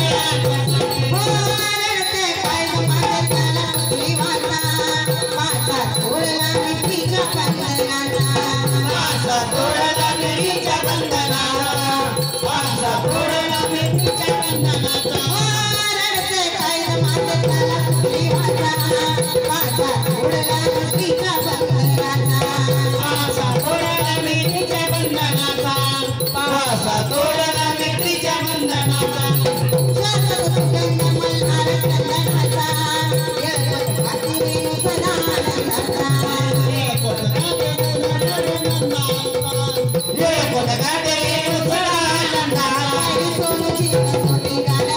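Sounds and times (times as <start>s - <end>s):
jingling rattling percussion: 0.0s - 44.9s
steady drum beat: 0.0s - 44.9s.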